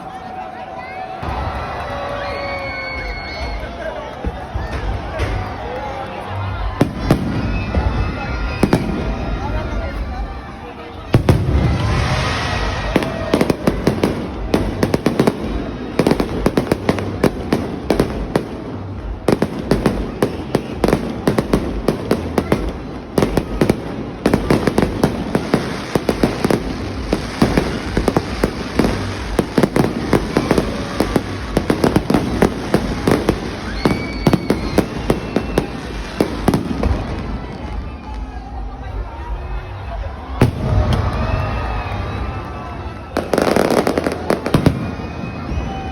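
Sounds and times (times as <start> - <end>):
fireworks bangs and crackles: 1.1 - 45.9.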